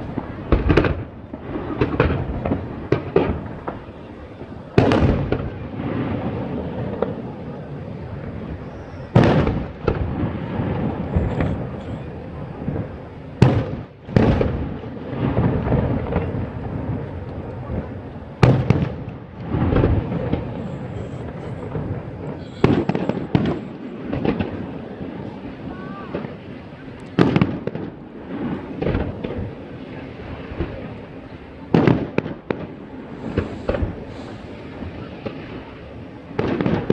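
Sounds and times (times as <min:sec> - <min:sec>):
fireworks bursting with bangs: 0:00.0 - 0:36.9
murmur of voices: 0:00.0 - 0:36.9.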